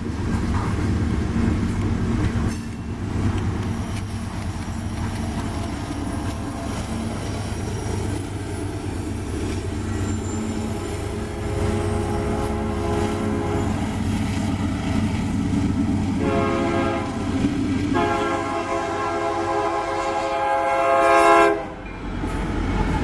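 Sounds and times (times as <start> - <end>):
diesel locomotive engines droning: 0.0 - 23.0
railcars rumbling over rails: 0.0 - 23.0.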